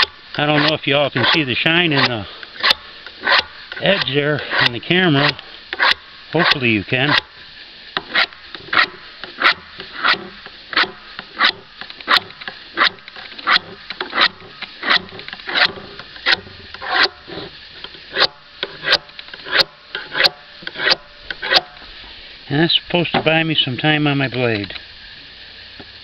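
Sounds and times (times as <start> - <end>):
sharpening rod rasping on chainsaw bar: 0.0 - 7.4, 8.0 - 21.8.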